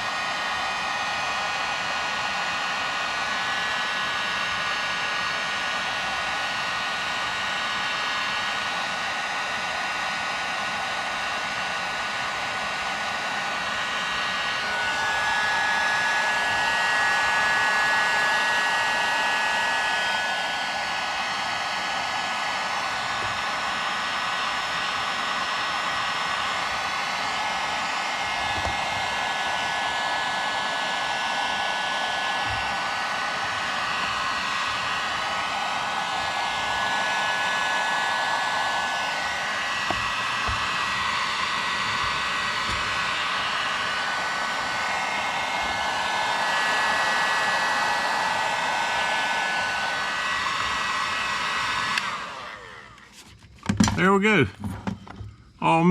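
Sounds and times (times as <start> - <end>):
heat gun blowing: 0.0 - 53.2.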